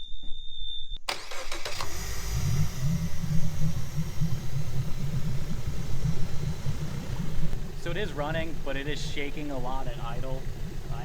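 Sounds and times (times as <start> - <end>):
outboard motor idling rough: 1.2 - 11.0.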